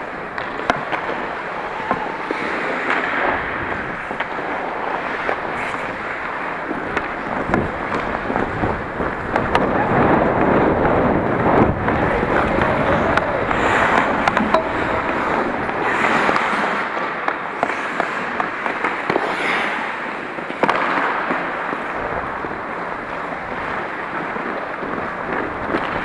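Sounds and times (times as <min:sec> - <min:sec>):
skates scraping on ice: 0:00.0 - 0:26.0
sticks and puck clacking: 0:00.0 - 0:26.0.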